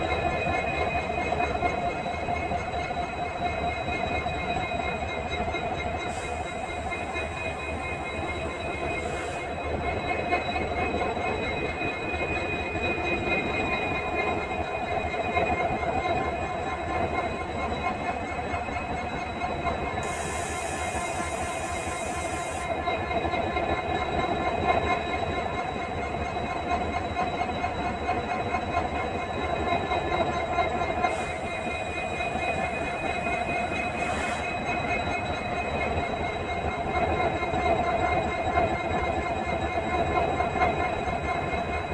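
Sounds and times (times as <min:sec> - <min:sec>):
diesel locomotive engine humming: 0:00.0 - 0:41.9.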